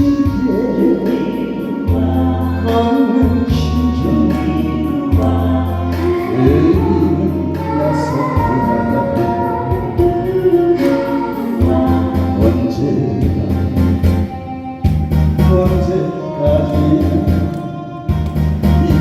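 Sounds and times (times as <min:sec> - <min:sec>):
instrumental backing with beat: 0:00.0 - 0:19.0
person singing: 0:00.0 - 0:19.0.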